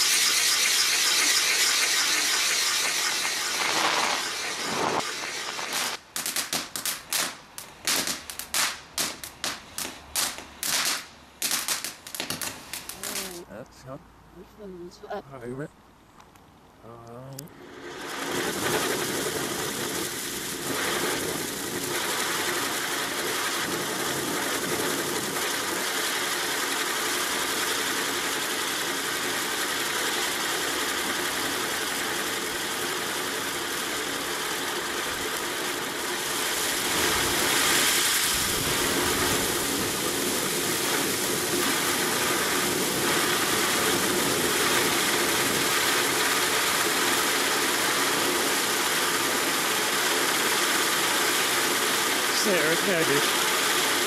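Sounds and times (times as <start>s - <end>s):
spinning firework hissing reversed: 0.0s - 13.4s, 17.6s - 54.0s.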